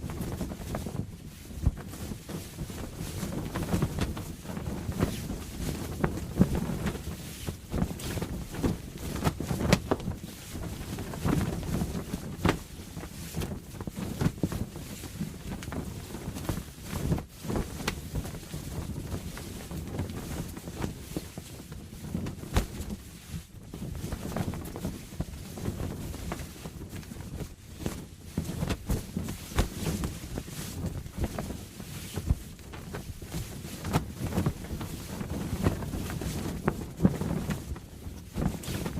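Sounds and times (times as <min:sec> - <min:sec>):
canvas sail flapping: 0:00.0 - 0:38.9.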